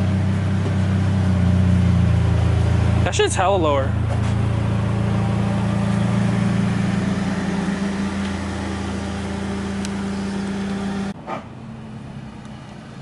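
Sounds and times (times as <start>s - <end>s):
car engine running at low speed: 0.0s - 13.0s.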